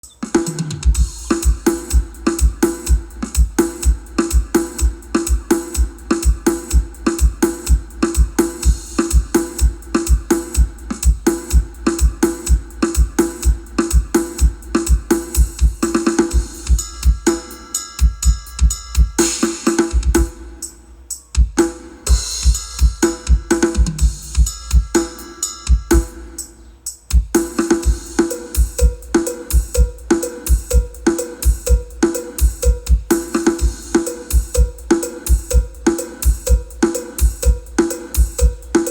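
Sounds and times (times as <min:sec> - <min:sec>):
electronic music: 0:00.0 - 0:38.9
cymbals: 0:00.1 - 0:38.9
deep kick drum beat: 0:00.3 - 0:20.7, 0:21.4 - 0:26.4, 0:27.1 - 0:38.9.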